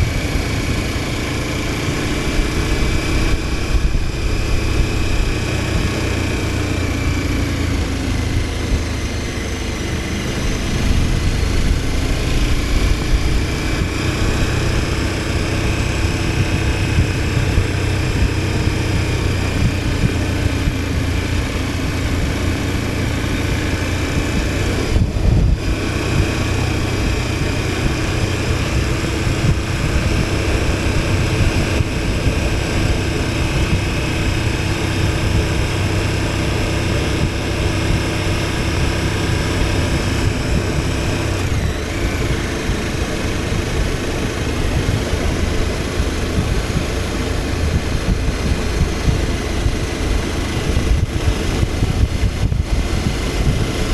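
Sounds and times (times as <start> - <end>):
motorcycle engine running: 0.0 - 53.9
rushing wind noise: 0.0 - 53.9.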